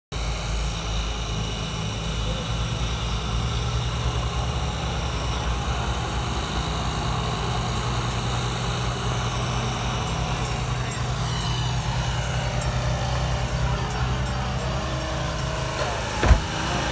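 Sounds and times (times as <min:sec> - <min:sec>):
diesel engine running: 0:00.1 - 0:16.9.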